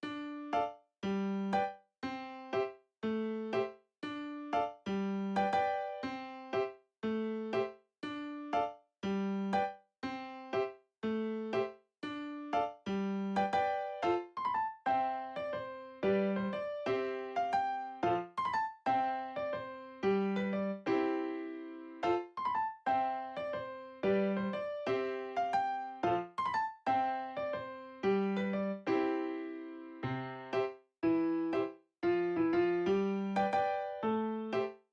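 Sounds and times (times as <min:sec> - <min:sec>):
bouncy keyboard tune: 0:00.0 - 0:34.8.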